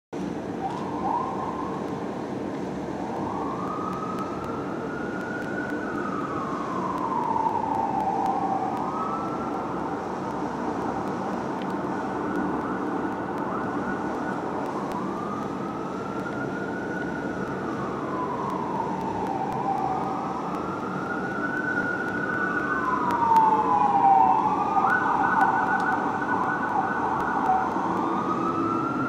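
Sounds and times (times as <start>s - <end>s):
city traffic noise: 0.2s - 29.0s
fire engine siren wailing: 0.4s - 29.0s.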